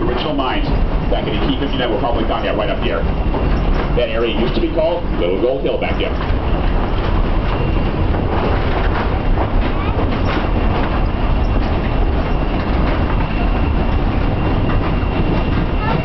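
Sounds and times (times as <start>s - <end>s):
train wheels clattering on rails: 0.0s - 16.0s.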